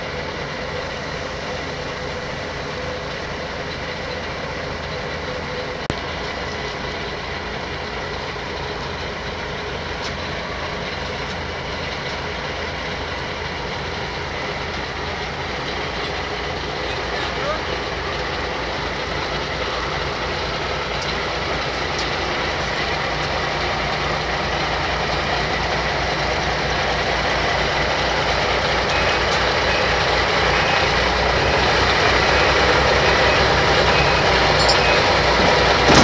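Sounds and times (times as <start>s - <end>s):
heavy diesel engines running: 0.0s - 36.0s.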